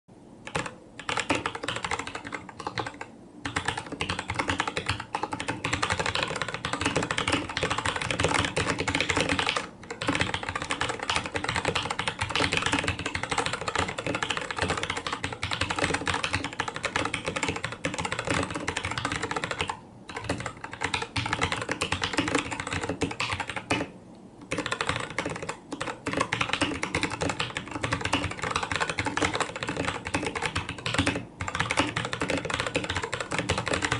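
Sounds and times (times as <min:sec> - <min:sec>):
mechanical keyboard typing: 0:00.4 - 0:33.9.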